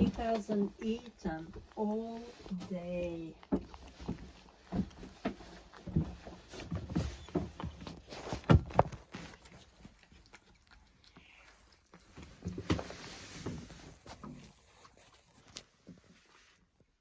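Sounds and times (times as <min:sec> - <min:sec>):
cat eating clicks and rustling: 0:00.0 - 0:16.3.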